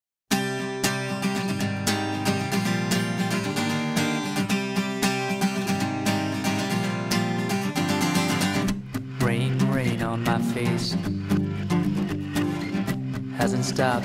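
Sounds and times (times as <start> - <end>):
strummed acoustic guitar: 0.3 - 14.0.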